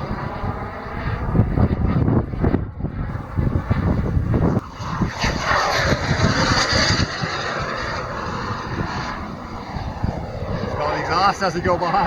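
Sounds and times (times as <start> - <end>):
jet turbine engine passing: 0.0 - 12.0
wind buffeting microphone: 0.0 - 12.0.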